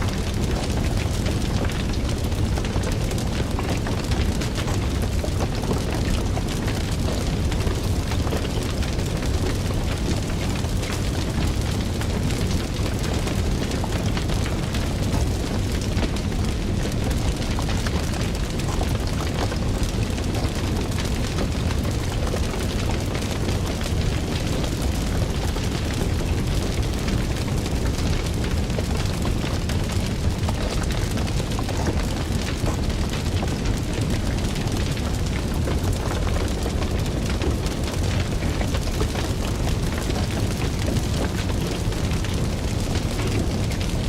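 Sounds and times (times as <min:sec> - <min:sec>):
fire crackling: 0:00.0 - 0:44.0.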